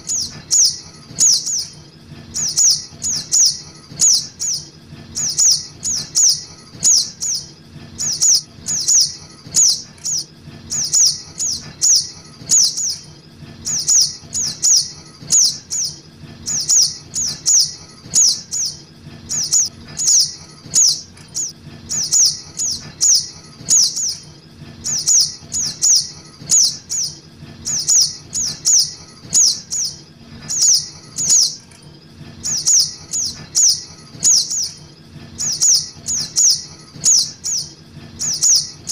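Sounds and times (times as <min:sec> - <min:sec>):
high sharp bird chirps: 0:00.0 - 0:31.7, 0:32.4 - 0:34.8, 0:35.4 - 0:38.9.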